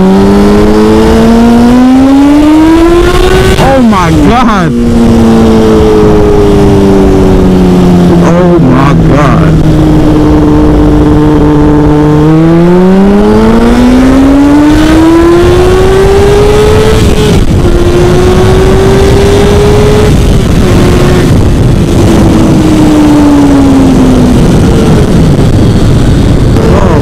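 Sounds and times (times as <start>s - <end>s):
motorcycle engine accelerating: 0.0s - 27.0s
wind rushing: 0.0s - 27.0s.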